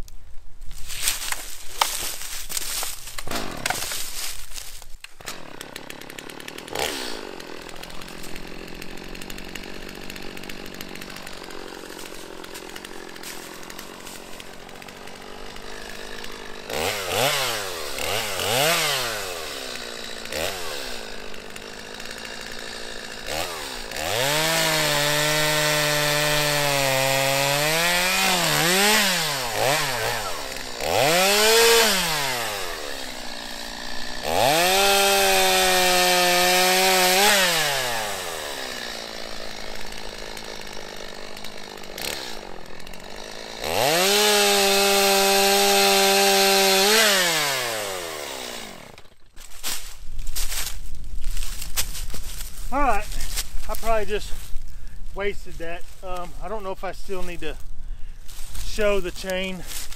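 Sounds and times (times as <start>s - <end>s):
chainsaw cutting through log: 0.8s - 59.9s
chainsaw idling and revving: 1.2s - 59.9s.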